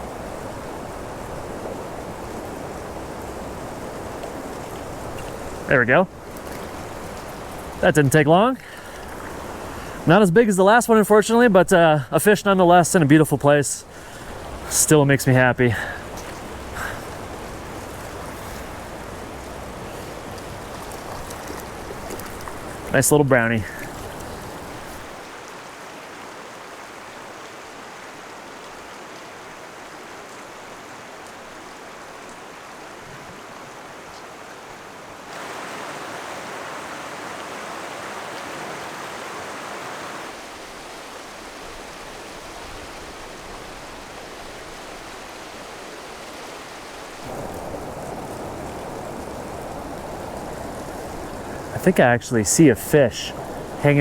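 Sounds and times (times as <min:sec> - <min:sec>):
flowing stream rushing: 0:00.0 - 0:54.0.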